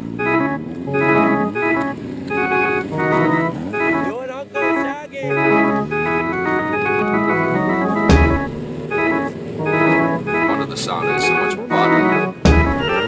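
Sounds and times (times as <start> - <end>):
organ-like keyboard music: 0.0 - 13.0.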